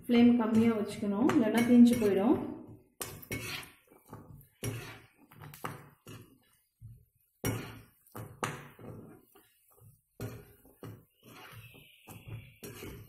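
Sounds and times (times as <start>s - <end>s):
spatula scraping a pan: 0.0s - 13.0s.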